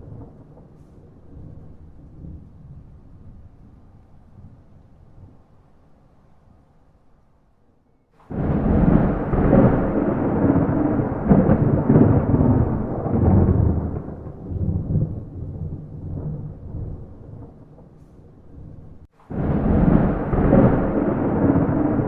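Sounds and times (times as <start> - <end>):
thunderclap with rolling rumbles: 0.0 - 5.7, 8.2 - 22.0.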